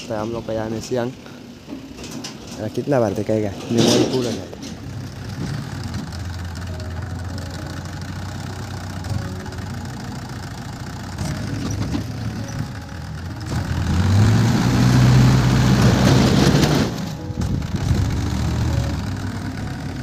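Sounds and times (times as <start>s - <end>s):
tractor engine idling and revving: 4.0s - 20.0s.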